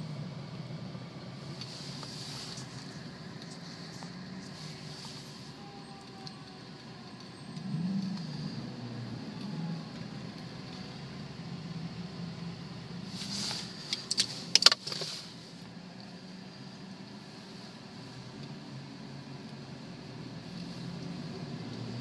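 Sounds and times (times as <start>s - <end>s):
car cabin road hum: 0.0s - 22.0s.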